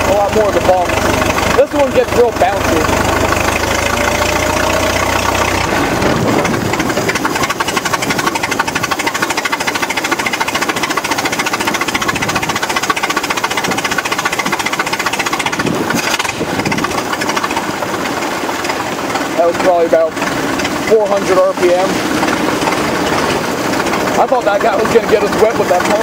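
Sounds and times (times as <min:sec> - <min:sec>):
car engine running slowly: 0:00.0 - 0:26.0.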